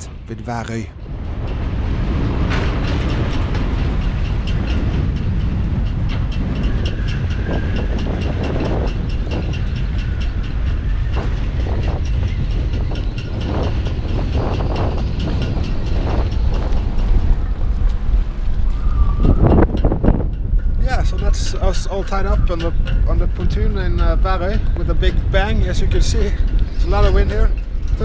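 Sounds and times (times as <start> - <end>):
wind buffeting microphone: 1.0 - 28.0.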